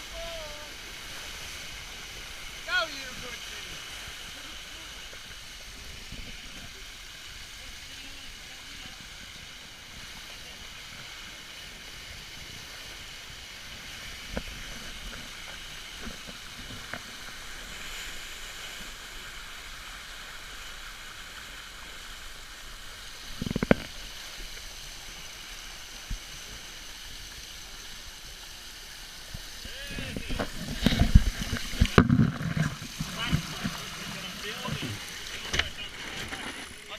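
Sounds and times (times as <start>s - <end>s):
water rushing along boat hull: 0.0s - 36.9s.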